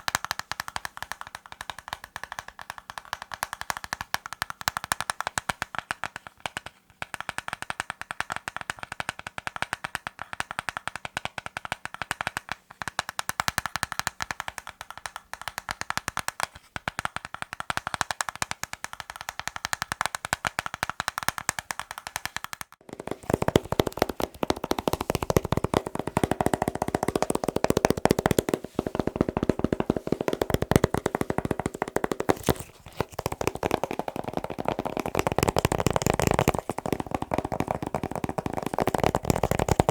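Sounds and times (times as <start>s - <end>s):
rapid tapping on hard objects: 0.0s - 39.9s.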